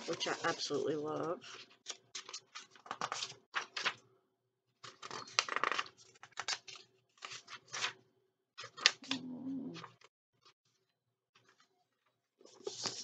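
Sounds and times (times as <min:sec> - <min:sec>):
book pages turning: 0:00.0 - 0:04.0, 0:04.8 - 0:08.0, 0:08.6 - 0:13.0.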